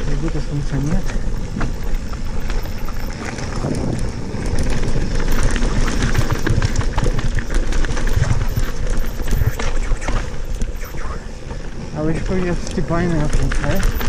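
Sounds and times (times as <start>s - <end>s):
bike clicks and rattles: 0.0s - 10.8s, 11.4s - 14.0s
low rumble: 0.0s - 14.0s
tyres crunching over stones: 0.0s - 14.0s.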